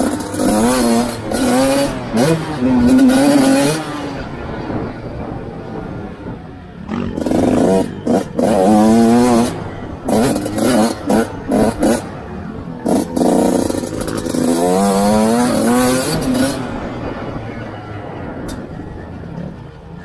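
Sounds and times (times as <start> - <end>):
dirt bike engine revving: 0.0 - 17.6.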